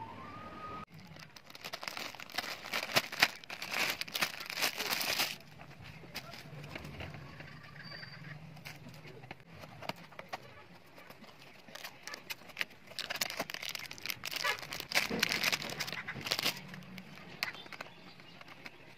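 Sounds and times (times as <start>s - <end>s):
plastic packaging crinkling: 0.9s - 7.0s, 8.6s - 18.9s.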